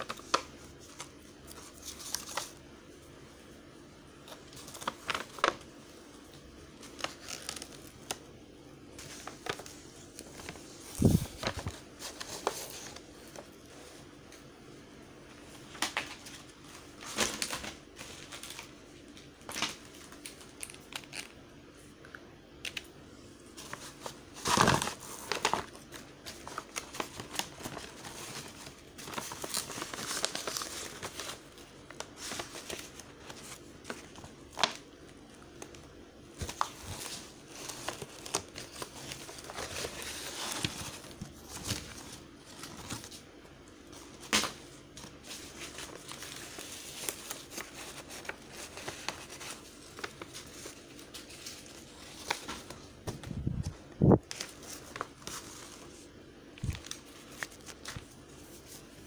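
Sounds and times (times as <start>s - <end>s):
paper rustling and crinkling: 0.0s - 3.1s, 4.1s - 14.5s, 15.3s - 21.8s, 22.6s - 59.0s.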